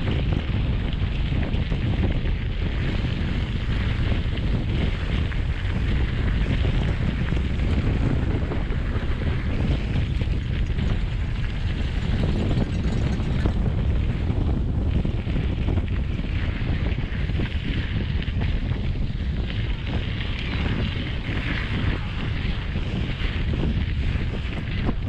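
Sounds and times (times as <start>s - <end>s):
bike tyres rolling on gravel: 0.0s - 25.0s
wind rushing over microphone: 0.0s - 25.0s.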